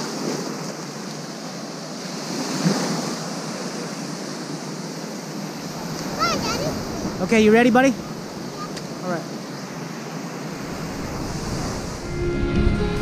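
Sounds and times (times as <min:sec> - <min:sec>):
small waves breaking on beach: 0:00.0 - 0:12.1.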